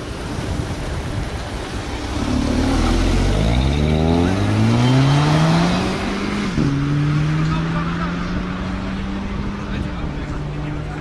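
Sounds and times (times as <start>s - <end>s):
car engine accelerating: 1.7s - 11.0s.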